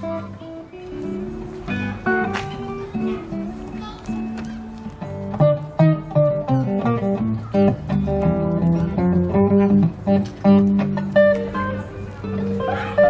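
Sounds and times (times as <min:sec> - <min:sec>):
acoustic guitar picked melody: 0:00.0 - 0:13.0.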